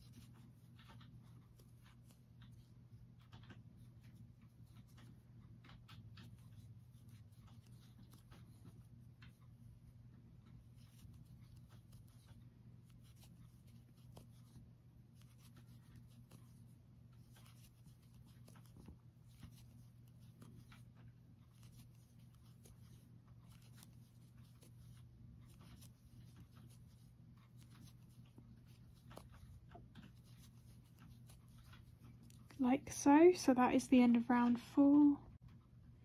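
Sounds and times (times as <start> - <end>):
crochet hook scratching yarn: 0.0 - 33.3.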